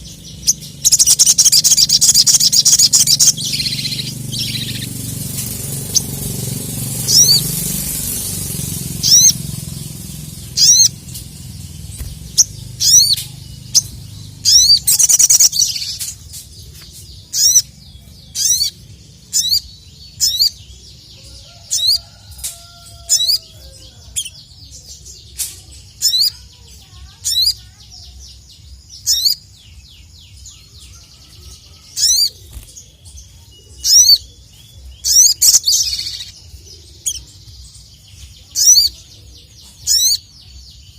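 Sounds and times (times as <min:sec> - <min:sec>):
loud sharp high bird chirps: 0:00.0 - 0:24.5, 0:25.1 - 0:37.4, 0:38.4 - 0:39.0, 0:39.8 - 0:40.9.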